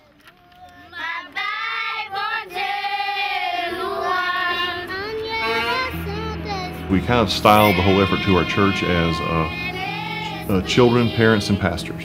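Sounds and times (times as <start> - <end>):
children singing in unison: 0.9 - 12.0.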